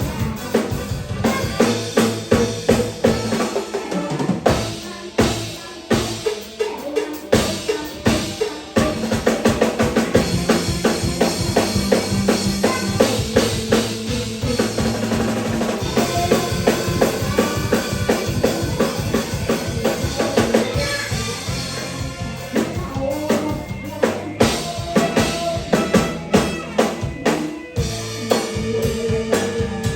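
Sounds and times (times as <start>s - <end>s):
band instruments holding notes: 0.0s - 29.9s
fast drum kit pattern: 0.0s - 29.9s.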